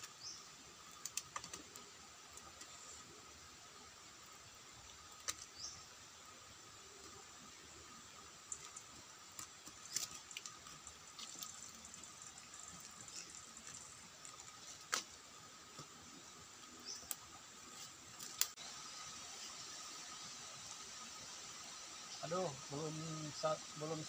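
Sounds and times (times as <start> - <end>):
faint high hiss: 0.0 - 24.0.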